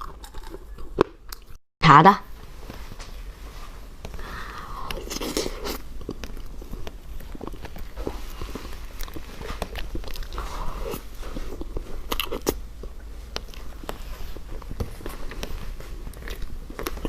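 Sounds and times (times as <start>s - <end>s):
person chewing crunchy food: 0.0s - 1.6s, 4.2s - 17.0s.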